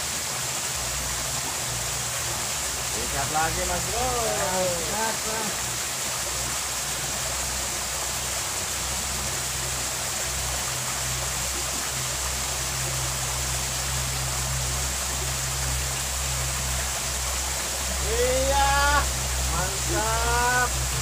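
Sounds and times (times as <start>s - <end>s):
water rushing over stones: 0.0s - 21.0s.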